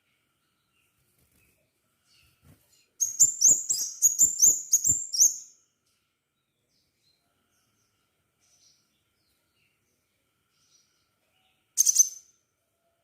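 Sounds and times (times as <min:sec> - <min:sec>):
bird chirping: 0:00.0 - 0:12.5.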